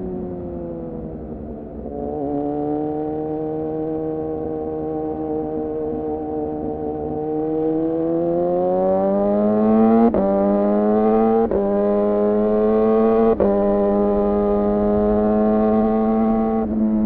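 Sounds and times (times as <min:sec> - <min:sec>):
motorcycle engine revving: 0:01.8 - 0:17.0.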